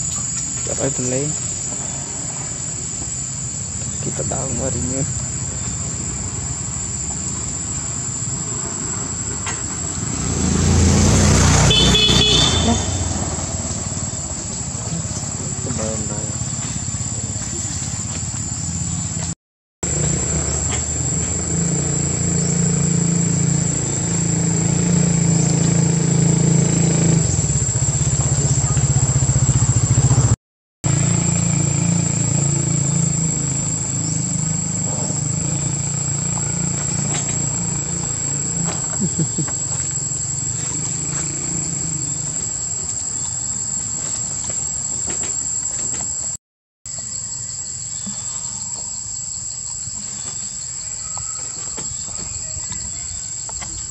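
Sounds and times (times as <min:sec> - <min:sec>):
high-pitched insect drone: 0:00.0 - 0:19.1, 0:19.8 - 0:30.3, 0:30.9 - 0:53.9.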